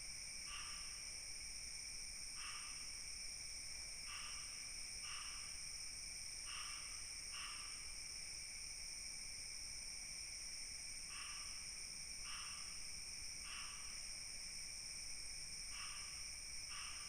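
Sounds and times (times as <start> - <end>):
insects high-pitched drone: 0.0 - 17.0
short insect call: 0.0 - 17.0.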